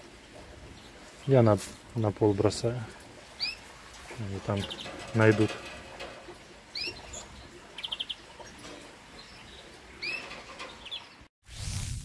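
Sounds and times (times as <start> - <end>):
songbirds chirping: 0.0 - 11.3.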